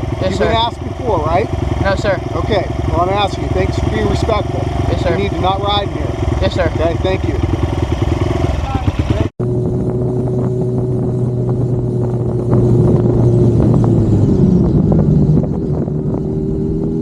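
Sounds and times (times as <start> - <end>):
motor vehicle engine running: 0.0 - 17.0.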